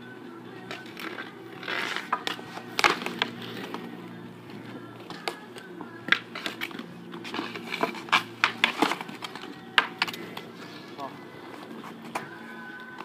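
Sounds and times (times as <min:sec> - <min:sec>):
hockey sticks clacking: 0:00.6 - 0:03.9, 0:04.6 - 0:10.8, 0:11.5 - 0:13.0.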